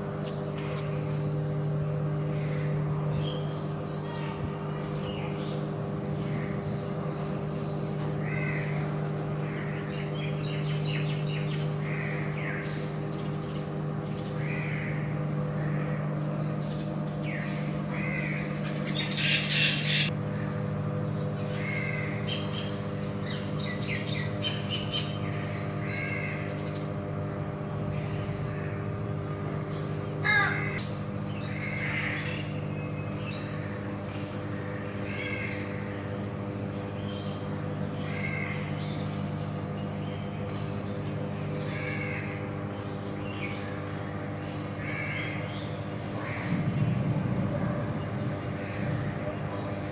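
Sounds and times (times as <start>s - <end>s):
birds calling and cawing: 0.0s - 49.9s
steady machinery hum: 0.0s - 49.9s.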